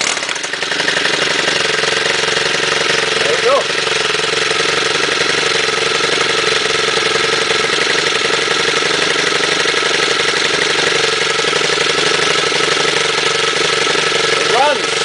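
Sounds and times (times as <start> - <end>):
string trimmer engine running: 0.0 - 15.0.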